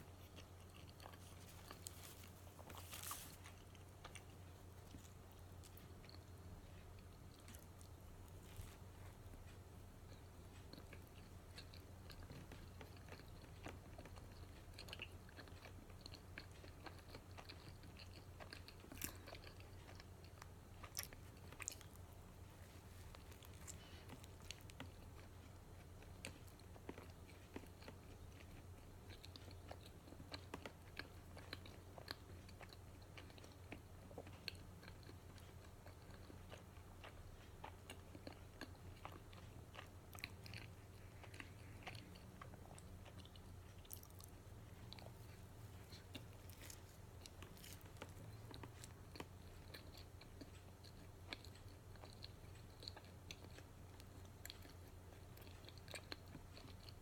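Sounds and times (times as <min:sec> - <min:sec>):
low steady hum: 0:00.0 - 0:57.0
person chewing food: 0:00.0 - 0:57.0.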